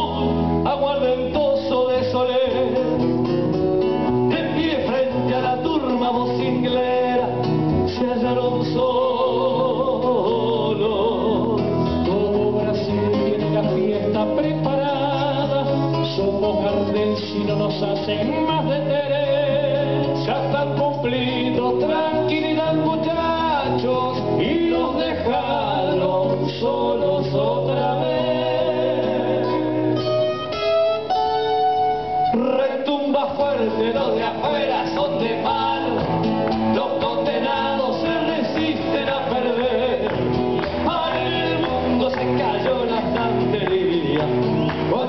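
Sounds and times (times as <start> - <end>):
men singing: 0.0 - 3.2, 4.0 - 30.0, 32.3 - 45.0
acoustic guitars strumming: 0.0 - 45.0
bass line: 0.0 - 45.0.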